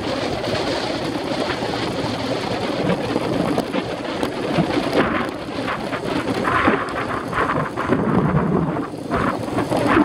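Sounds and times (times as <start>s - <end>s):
raindrops hitting camera: 0.0s - 10.0s
wind rushing: 0.0s - 10.0s.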